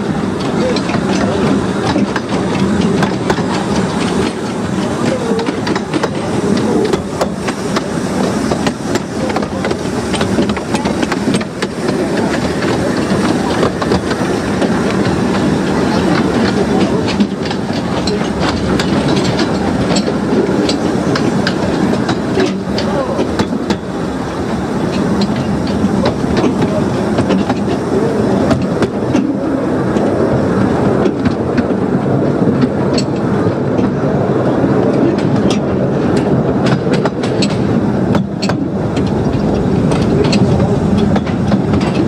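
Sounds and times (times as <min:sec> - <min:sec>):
railway coach rolling: 0:00.0 - 0:42.0
wheels clicking over rail joints: 0:00.0 - 0:42.0.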